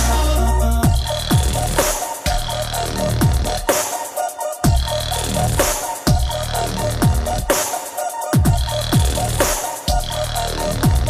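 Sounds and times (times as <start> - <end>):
deep bass sweeps: 0.0 - 3.7, 4.6 - 7.5, 8.5 - 11.0
looped beatbox vocals: 0.0 - 11.0.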